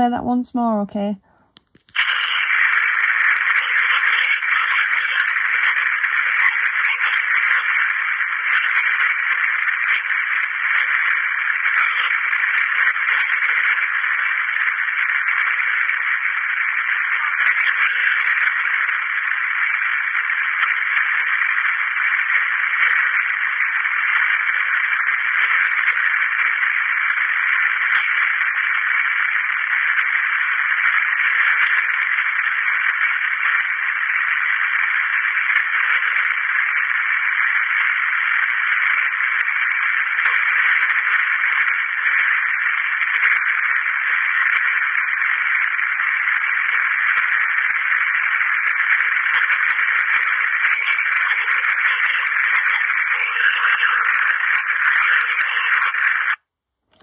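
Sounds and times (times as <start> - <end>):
radio static hiss: 1.1 - 57.0
faint crackles: 1.3 - 57.0.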